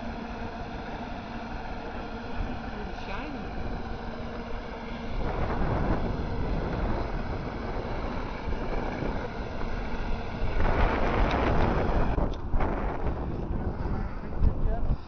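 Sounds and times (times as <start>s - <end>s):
floor scrubber motor humming: 0.0s - 15.0s.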